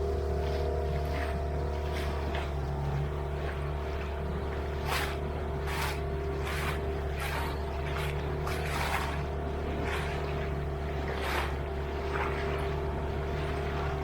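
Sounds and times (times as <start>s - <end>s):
boat motor humming: 0.0s - 14.0s
water splashing against hull: 0.0s - 14.0s.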